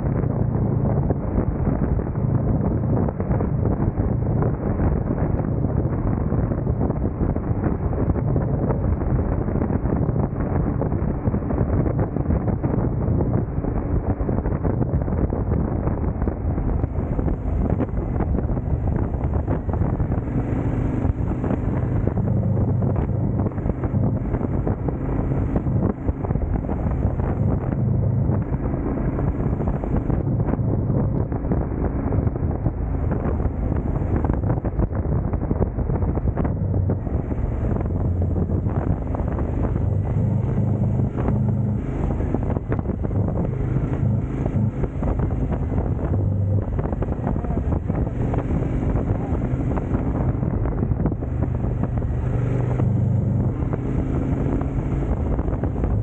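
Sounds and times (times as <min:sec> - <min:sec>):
motorcycle engine revving: 0:00.0 - 0:56.0
wind on microphone: 0:00.0 - 0:56.0.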